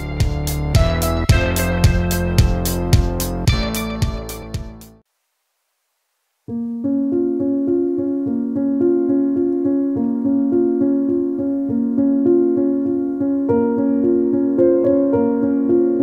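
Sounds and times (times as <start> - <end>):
background piano music: 0.0 - 5.0, 6.5 - 16.0.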